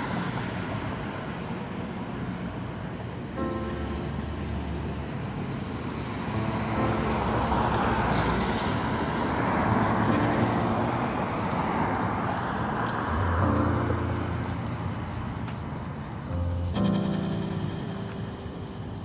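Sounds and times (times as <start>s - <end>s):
road traffic noise: 0.0s - 19.0s
vehicle passing: 3.5s - 19.0s.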